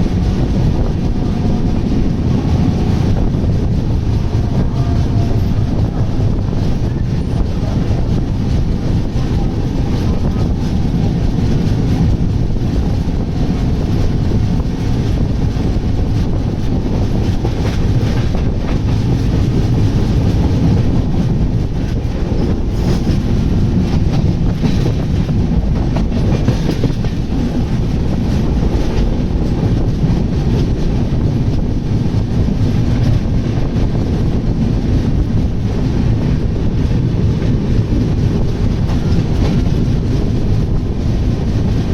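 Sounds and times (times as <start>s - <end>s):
clickety-clack of rail joints: 0.0s - 41.9s
train wheels rumbling on rails: 0.0s - 41.9s.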